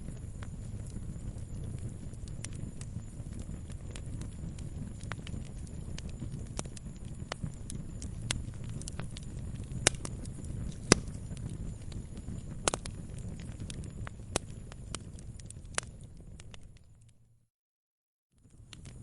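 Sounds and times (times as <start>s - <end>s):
wood fire crackling and popping: 0.0s - 17.2s, 18.4s - 19.0s
low rumble of flames: 0.0s - 17.4s, 18.4s - 19.0s.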